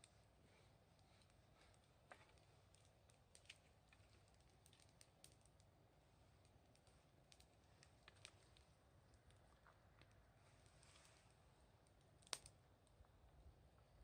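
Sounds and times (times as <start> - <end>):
faint wood fire crackling: 0.0 - 14.0.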